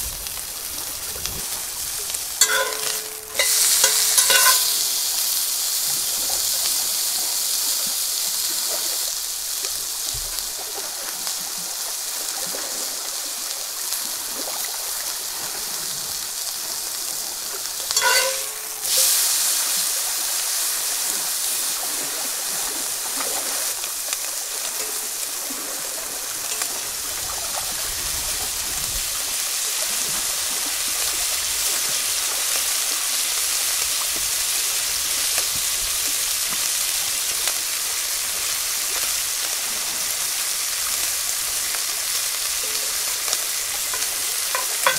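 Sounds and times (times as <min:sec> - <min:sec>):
steak sizzling in a skillet: 0:00.0 - 0:44.9.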